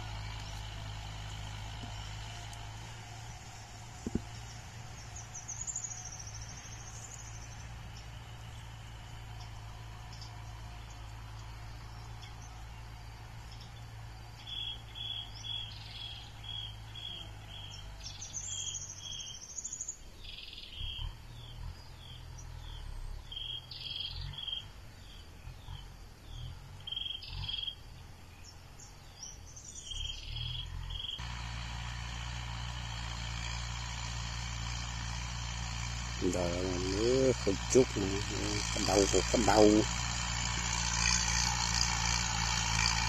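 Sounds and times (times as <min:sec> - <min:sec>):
distant tractor engine hum: 0:00.0 - 0:43.0.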